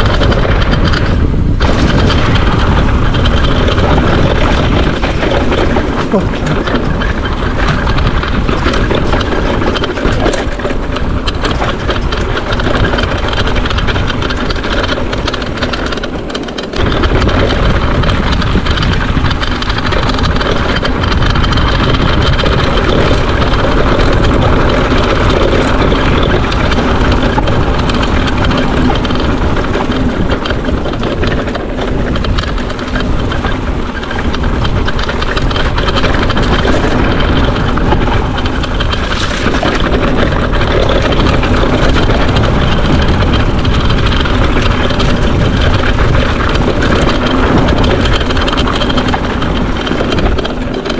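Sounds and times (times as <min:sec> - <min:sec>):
bike rattling and clattering: 0:00.0 - 0:50.9
wind on microphone: 0:00.0 - 0:50.9.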